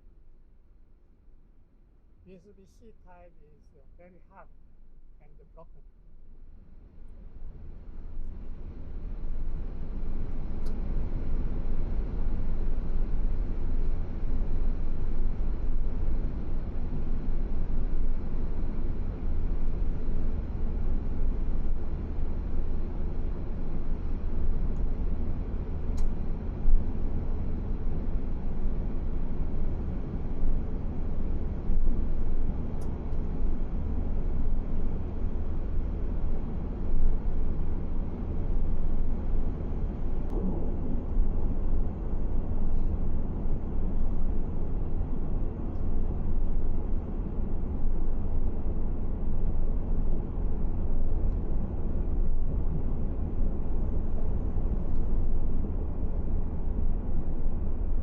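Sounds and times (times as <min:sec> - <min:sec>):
car road and engine rumble: 0:06.1 - 0:58.0.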